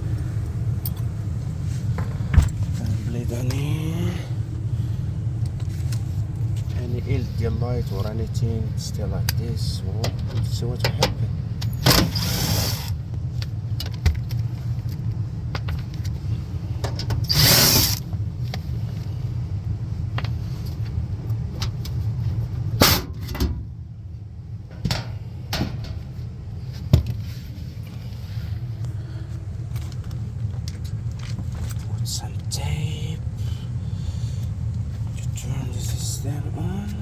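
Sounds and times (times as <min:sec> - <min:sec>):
furnace low hum: 0:00.0 - 0:37.0.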